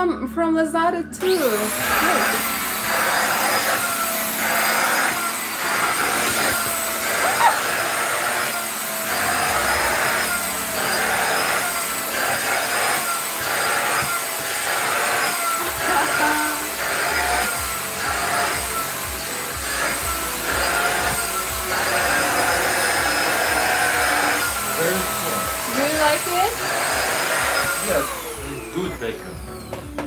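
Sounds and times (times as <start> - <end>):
handheld vacuum cleaner whining: 1.2 - 30.0.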